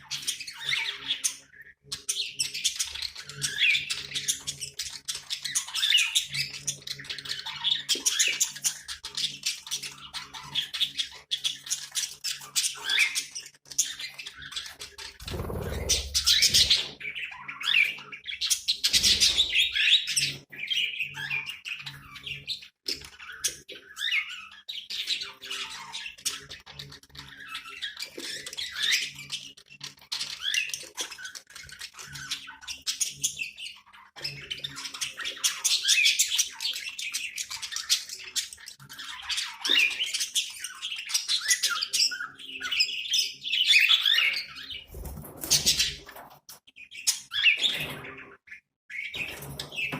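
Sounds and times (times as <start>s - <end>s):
budgerigars chattering and squawking: 0.0s - 49.9s.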